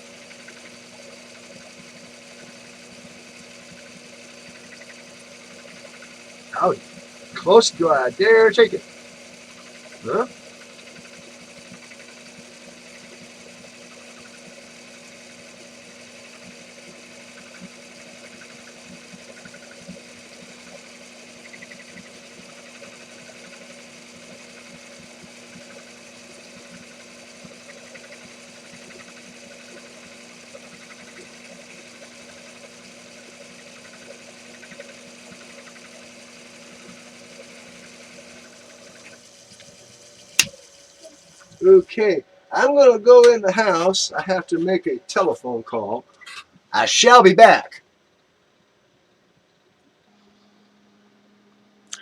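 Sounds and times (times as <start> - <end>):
bench lathe running: 0.0 - 47.7.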